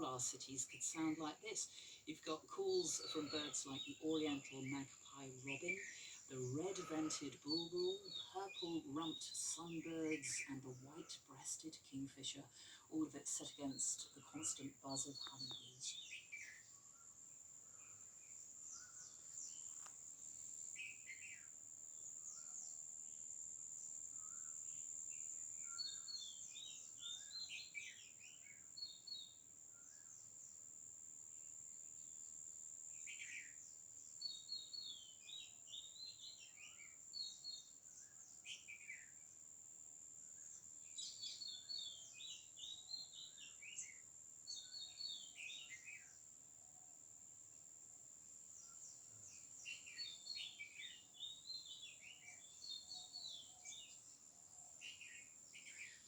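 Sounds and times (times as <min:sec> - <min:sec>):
birds calling and singing: 0:00.0 - 0:19.9, 0:24.2 - 0:30.4, 0:33.0 - 0:39.2, 0:40.4 - 0:46.2, 0:48.5 - 0:56.0.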